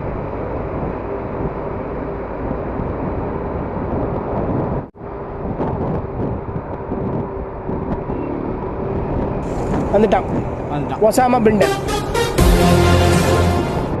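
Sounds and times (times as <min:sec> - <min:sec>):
wind rushing over microphone: 0:00.0 - 0:11.6
motorcycle engine drone: 0:00.0 - 0:14.0.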